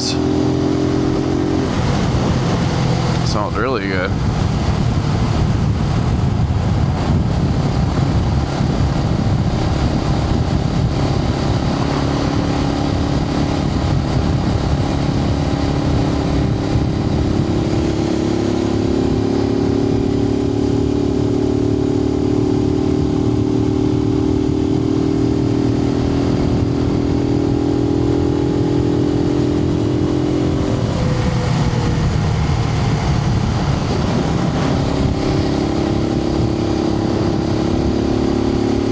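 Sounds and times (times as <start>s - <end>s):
low wind rumble: 0.0s - 38.9s
motorcycle engine running: 0.0s - 38.9s.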